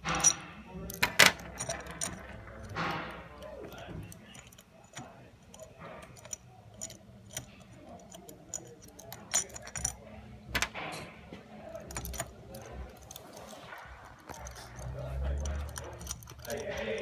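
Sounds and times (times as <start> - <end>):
small metal clicks and clinks: 0.0 - 11.0, 11.7 - 17.0.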